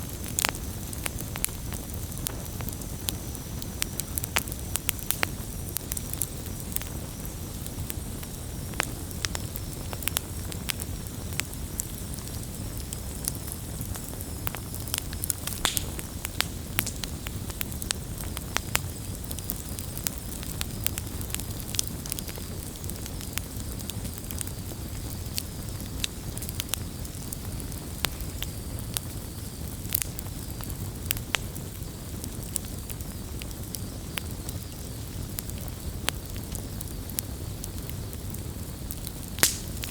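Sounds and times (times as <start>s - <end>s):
campfire crackles and pops: 0.0s - 39.9s
low rush of flames: 0.0s - 39.9s.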